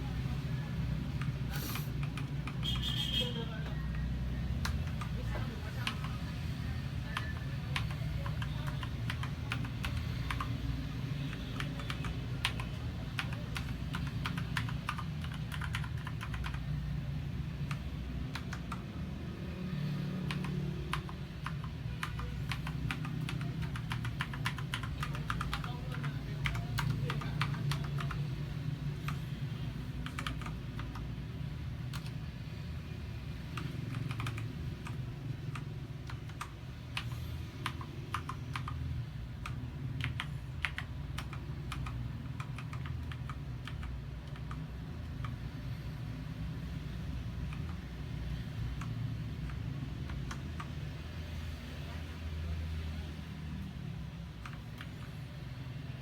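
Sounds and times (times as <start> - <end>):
mechanical keyboard typing clacks: 1.0 - 3.0, 3.9 - 19.2, 20.2 - 32.6, 33.4 - 45.5, 47.3 - 51.1, 54.3 - 55.5.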